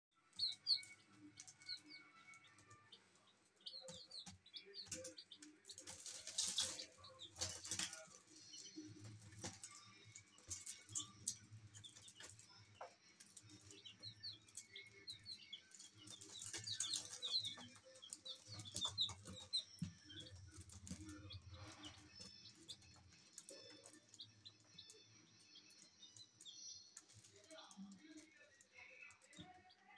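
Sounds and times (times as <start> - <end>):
baby chickens peeping: 0.2 - 29.9.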